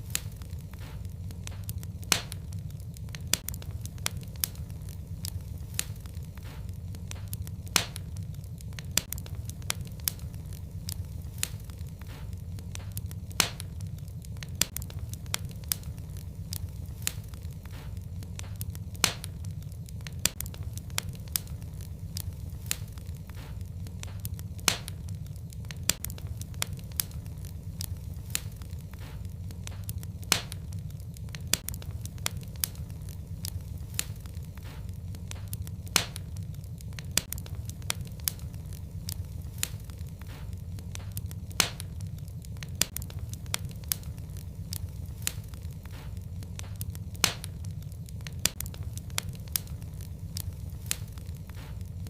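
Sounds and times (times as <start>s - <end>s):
fire burning: 0.0s - 52.0s
fire crackling: 0.0s - 52.0s
sharp pop of fire: 0.0s - 52.0s.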